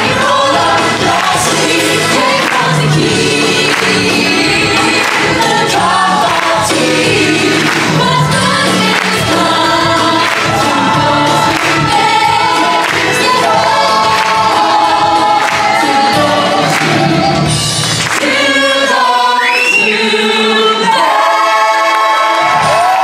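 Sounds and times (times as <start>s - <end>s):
cast singing together: 0.0s - 22.8s.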